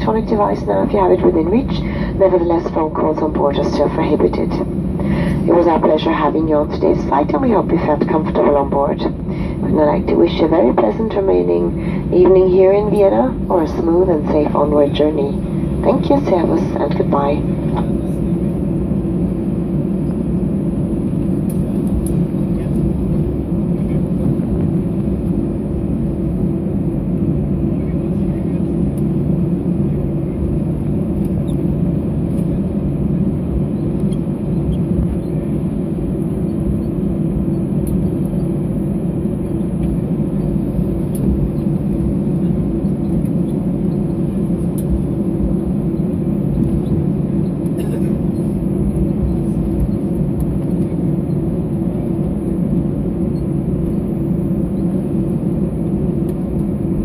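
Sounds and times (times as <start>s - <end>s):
aircraft engine drone in cabin: 0.0s - 57.0s.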